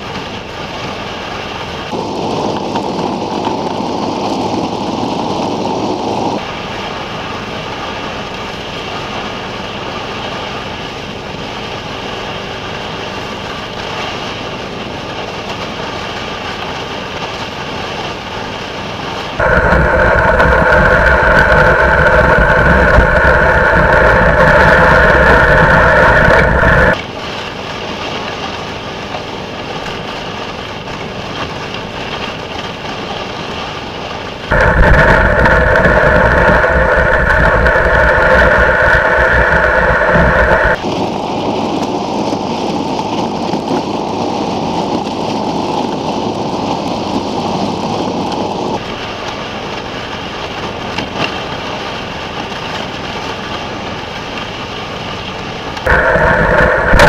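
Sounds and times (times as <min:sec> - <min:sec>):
snow machine engine running: 0:00.0 - 0:57.0.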